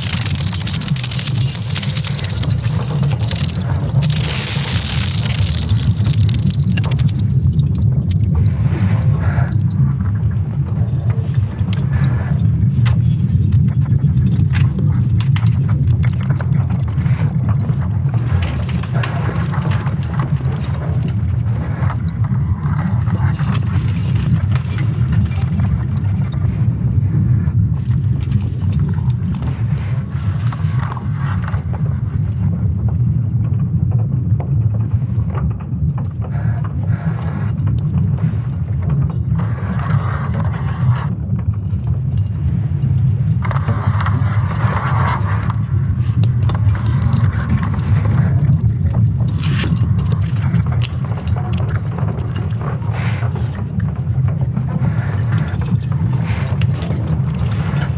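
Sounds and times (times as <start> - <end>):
crackling and creaking noise: 0.0 - 57.9
deep rumbling: 0.0 - 57.9.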